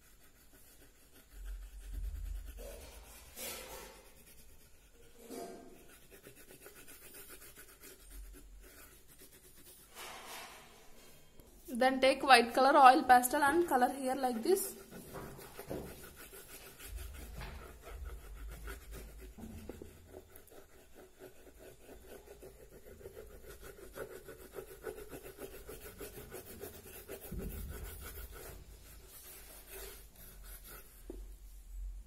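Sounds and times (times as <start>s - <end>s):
oil pastel rubbing on paper: 0.0s - 11.1s, 11.7s - 31.8s.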